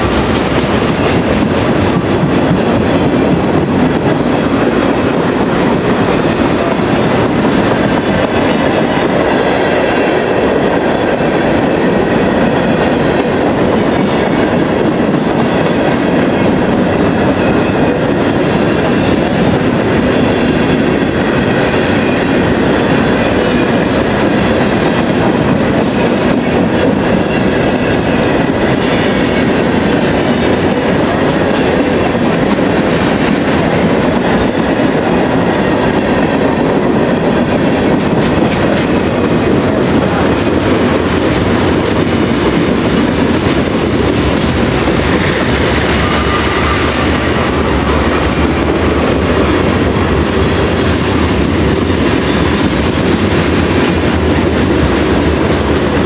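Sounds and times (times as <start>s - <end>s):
freight train rolling past: 0.0s - 56.0s
steel wheels clattering on rails: 0.0s - 56.0s.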